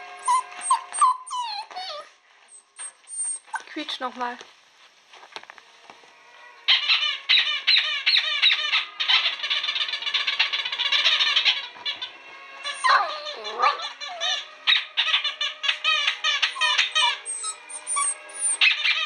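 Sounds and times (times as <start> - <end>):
squeaky dog toy squeaking: 0.2 - 3.8, 6.7 - 19.0.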